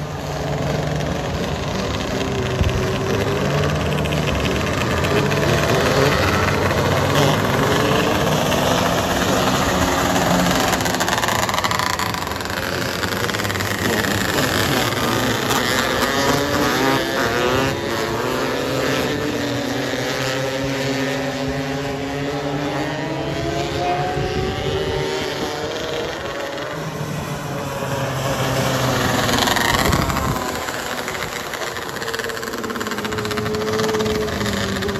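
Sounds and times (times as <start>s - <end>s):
sprint car engines racing: 0.0s - 34.9s.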